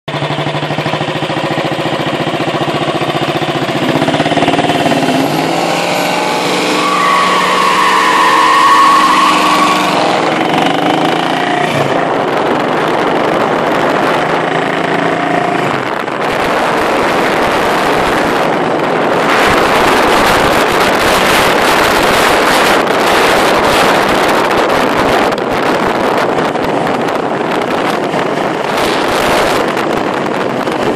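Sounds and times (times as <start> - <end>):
car engine accelerating: 0.1 - 30.9
wind noise on microphone: 0.1 - 30.9.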